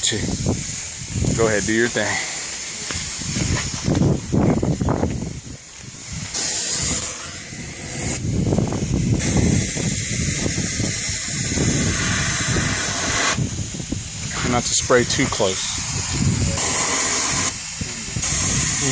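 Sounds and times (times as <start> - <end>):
sprayer hissing: 0.0 - 18.9.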